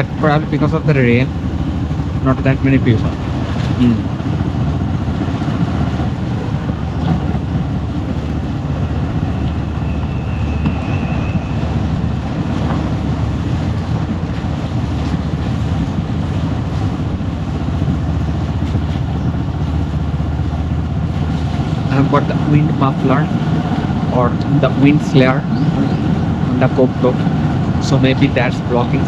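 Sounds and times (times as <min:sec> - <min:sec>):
motorcycle engine cruising: 0:00.0 - 0:28.5
road noise: 0:00.0 - 0:29.0
wind rushing over microphone: 0:00.0 - 0:29.0.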